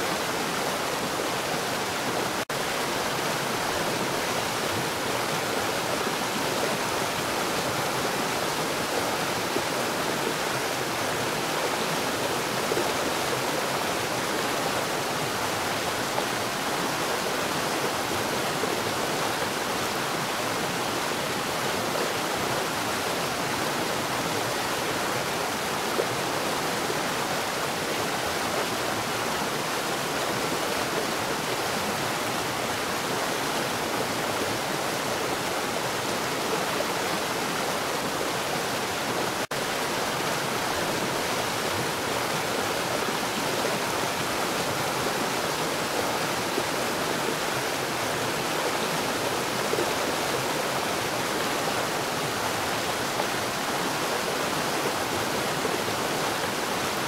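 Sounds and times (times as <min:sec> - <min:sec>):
rushing falling water: 0:00.0 - 0:57.0.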